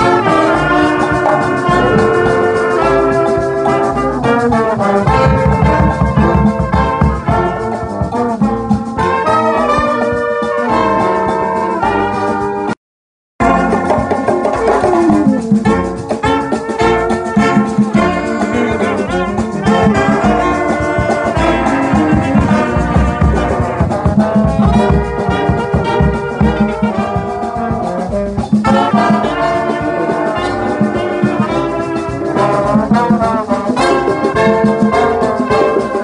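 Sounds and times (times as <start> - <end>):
bass drum and snare beat: 0.0 - 10.2, 13.4 - 36.0
brass band playing: 0.0 - 12.8, 13.4 - 36.0.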